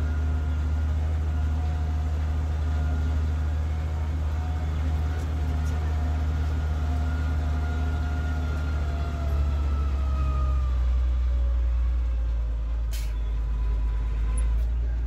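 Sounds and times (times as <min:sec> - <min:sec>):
high engine whine: 0:00.0 - 0:15.0
tractor diesel engine drone: 0:00.0 - 0:15.0.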